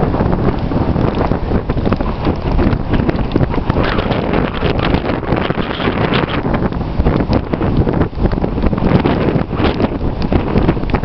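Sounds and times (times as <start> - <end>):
gusty wind buffeting microphone: 0.0 - 11.0.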